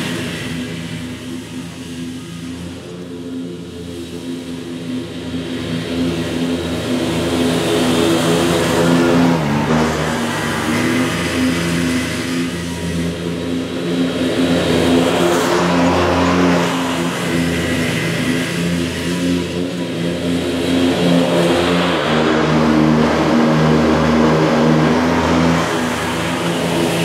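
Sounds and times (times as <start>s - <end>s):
riding mower engine running: 0.0s - 27.0s.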